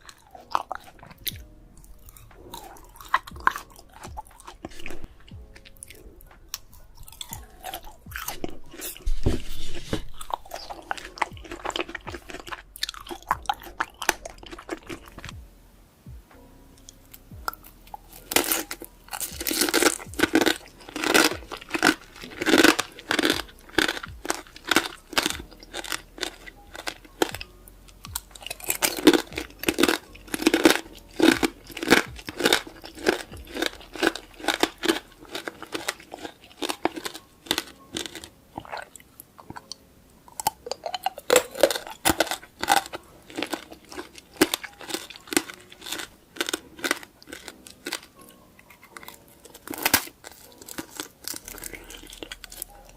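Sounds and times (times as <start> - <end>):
person chewing crisp fruit: 0.0 - 15.5, 16.8 - 52.9.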